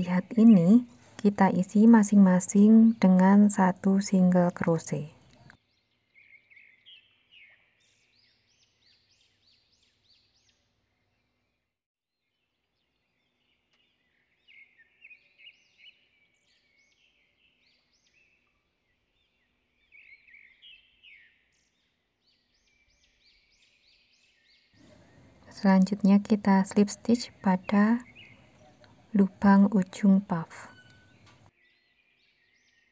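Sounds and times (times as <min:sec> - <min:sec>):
small birds chirping: 0:00.0 - 0:11.6, 0:12.2 - 0:32.9.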